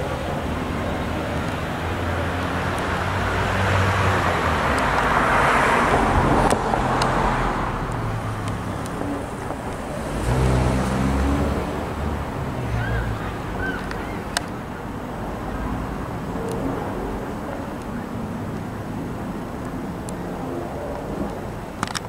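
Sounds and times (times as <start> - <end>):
vehicle passing: 0.0 - 21.7
low engine hum: 0.0 - 21.8.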